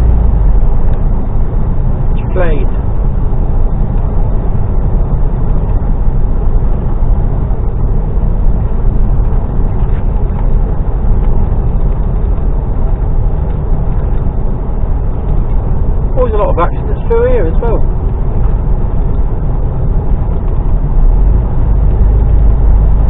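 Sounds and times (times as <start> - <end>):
diesel lorry engine rumble: 0.0 - 23.0
road noise: 0.0 - 23.0.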